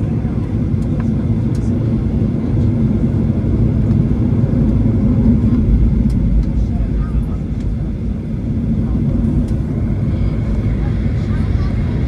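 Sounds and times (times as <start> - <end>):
aircraft engines and gear rumbling: 0.0 - 12.0.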